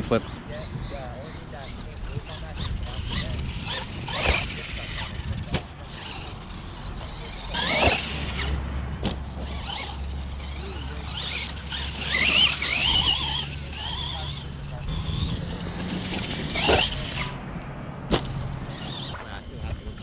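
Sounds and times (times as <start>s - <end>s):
electric motor whining: 0.0s - 8.6s, 9.3s - 17.4s, 18.6s - 20.0s.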